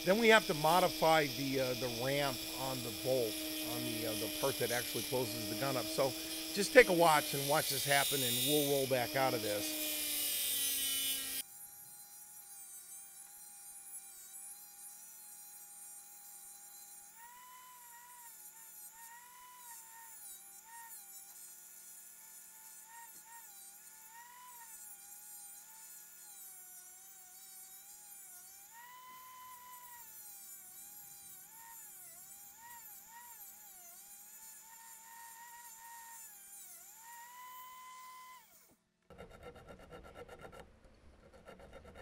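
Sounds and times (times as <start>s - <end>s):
rotary tool cutting steel: 0.0s - 42.0s.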